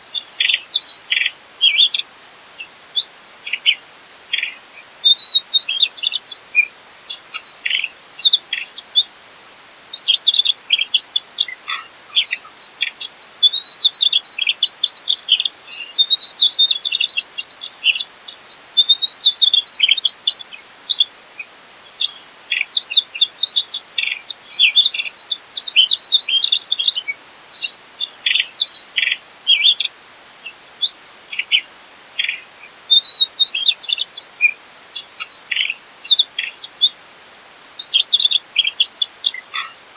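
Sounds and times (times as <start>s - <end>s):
flycatcher singing: 0.0s - 39.9s.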